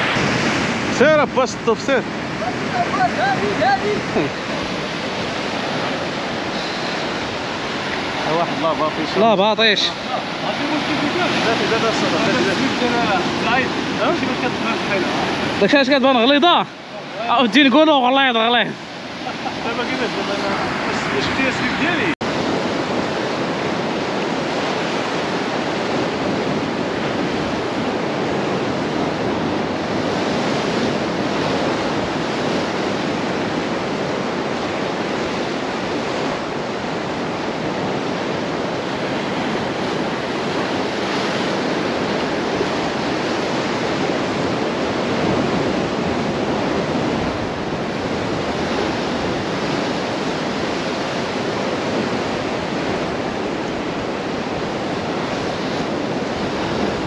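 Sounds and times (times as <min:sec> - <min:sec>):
surf washing onto shore: 0:00.0 - 0:57.0.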